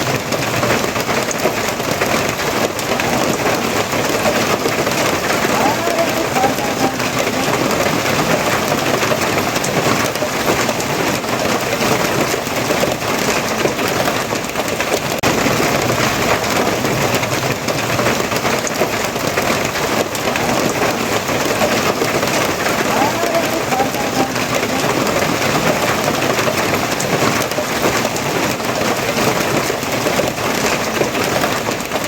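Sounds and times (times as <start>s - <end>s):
heavy rain pattering: 0.0s - 32.0s.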